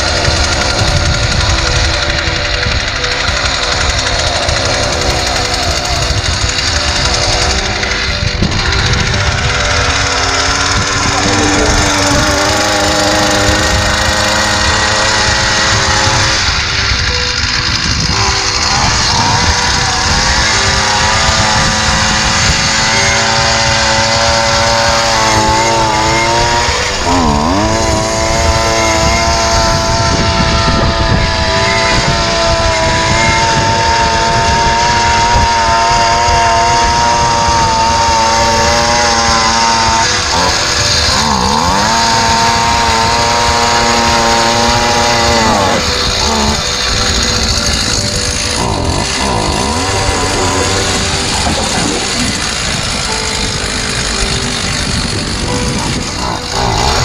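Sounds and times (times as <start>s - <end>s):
ice auger engine running: 0.0s - 57.0s.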